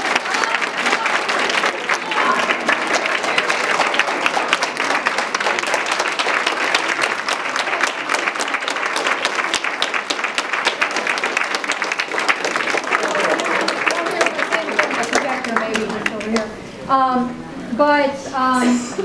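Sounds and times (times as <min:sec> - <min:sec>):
audience applauding: 0:00.0 - 0:16.6.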